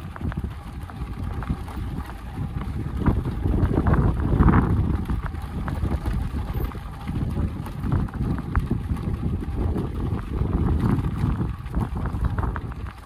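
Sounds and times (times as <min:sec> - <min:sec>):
motorcycle engine: 0:00.0 - 0:13.0
wind rumble on microphone: 0:00.0 - 0:13.0.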